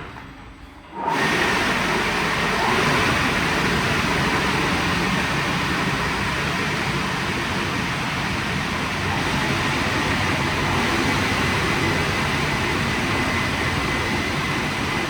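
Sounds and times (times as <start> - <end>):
car wash machinery rumbling: 0.0 - 15.0
loud steady rushing noise: 1.1 - 15.0.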